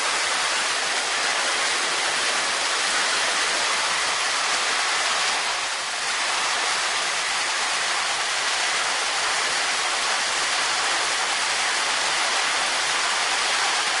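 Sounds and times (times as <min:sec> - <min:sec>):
heavy rain on flooded street: 0:00.0 - 0:14.0.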